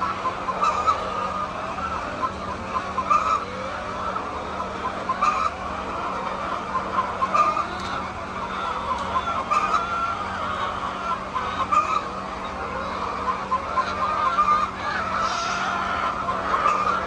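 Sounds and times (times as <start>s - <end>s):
loud squawking call: 0.0s - 17.0s
poultry chattering: 0.0s - 17.0s.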